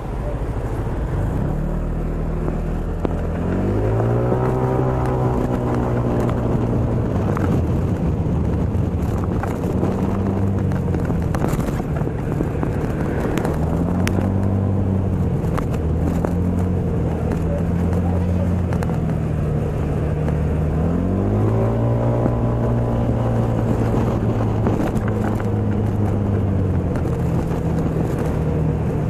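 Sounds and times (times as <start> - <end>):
moped engine accelerating: 0.0 - 29.0
road and wind noise: 0.0 - 29.0.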